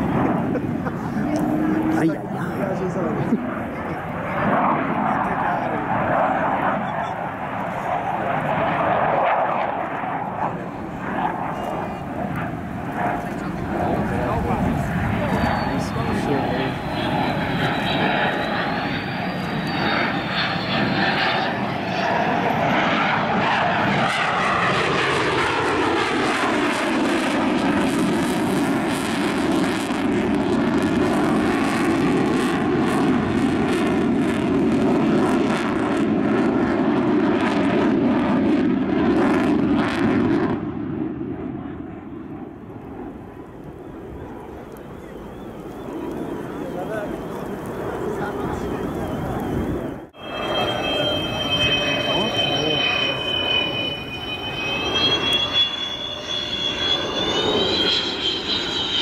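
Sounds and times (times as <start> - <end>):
crackling jet rumble: 0.0 - 59.0
jet engine whine: 0.0 - 59.0.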